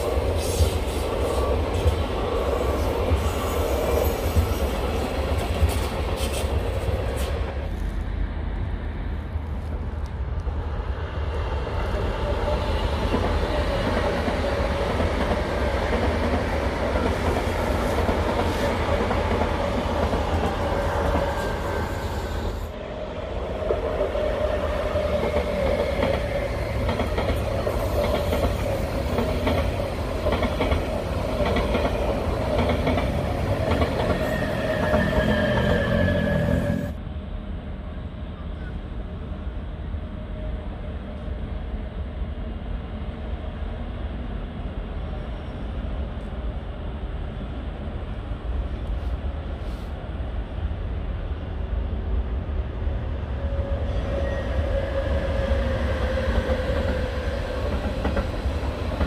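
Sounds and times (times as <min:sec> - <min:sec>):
passing trains rolling on rails: 0:00.0 - 0:59.0.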